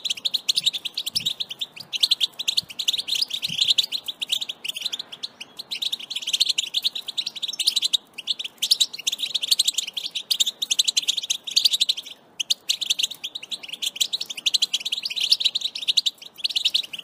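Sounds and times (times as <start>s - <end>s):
finch twittering song: 0.0s - 17.0s.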